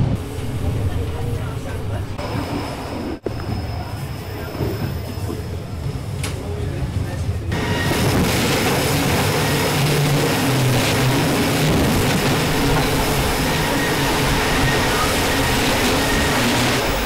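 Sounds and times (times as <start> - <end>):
train wheels rolling on track: 0.0 - 17.0.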